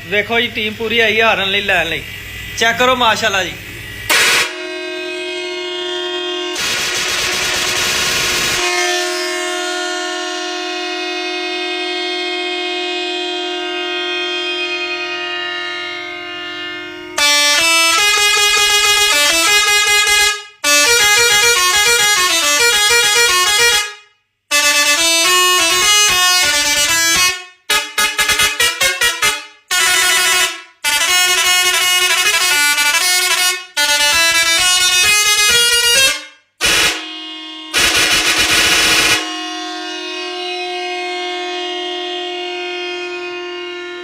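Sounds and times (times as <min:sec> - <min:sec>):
musical truck horn: 0:03.8 - 0:44.0.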